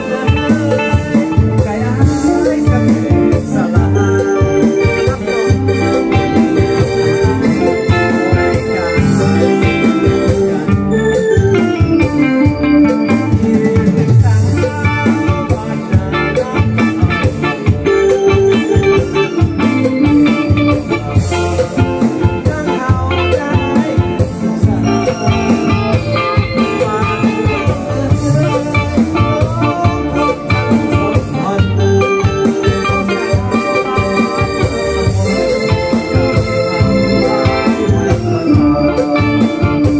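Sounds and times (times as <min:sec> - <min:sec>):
electric guitar: 0:00.0 - 0:39.9
electronic keyboard: 0:00.0 - 0:39.9
steady drum beat: 0:00.0 - 0:39.9.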